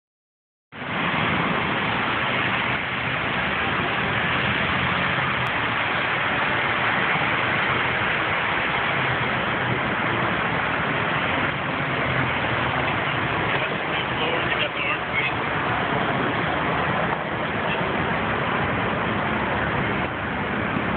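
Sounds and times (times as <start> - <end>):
freeway traffic hiss: 0.8 - 20.9.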